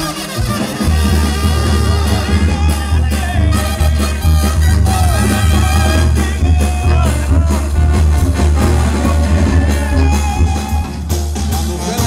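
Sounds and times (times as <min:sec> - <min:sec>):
heavy steady bass: 0:00.5 - 0:12.0
loud music with singing: 0:00.5 - 0:12.0.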